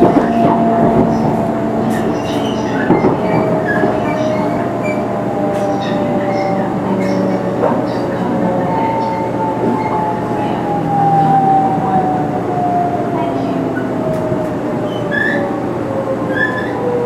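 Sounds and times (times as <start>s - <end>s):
train running noise: 0.0s - 17.0s
train traction motors whining: 0.0s - 17.0s.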